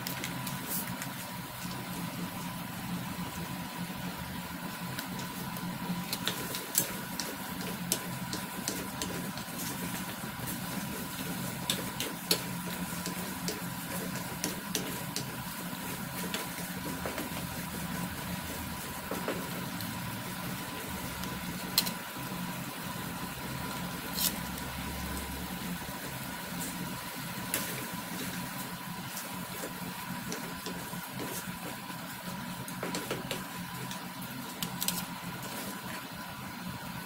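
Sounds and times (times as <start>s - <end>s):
steady mechanical hum: 0.0s - 37.0s
spatula stirring simmering food: 4.6s - 36.8s.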